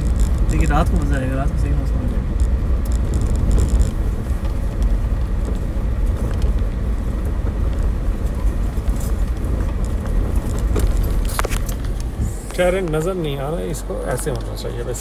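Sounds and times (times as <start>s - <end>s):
car engine and tyres rumbling: 0.0s - 15.0s
light rattles in car cabin: 0.0s - 15.0s.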